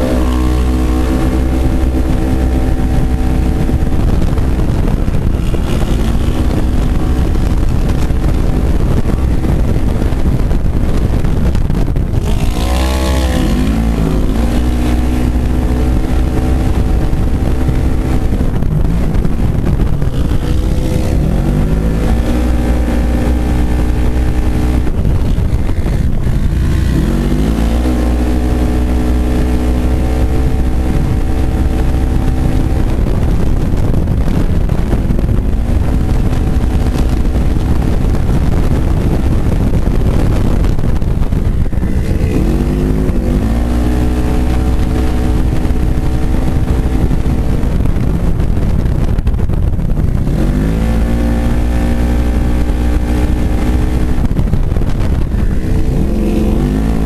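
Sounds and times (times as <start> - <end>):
low rumble of wind and running gear: 0.0 - 57.0
race car engine revving: 0.0 - 57.0.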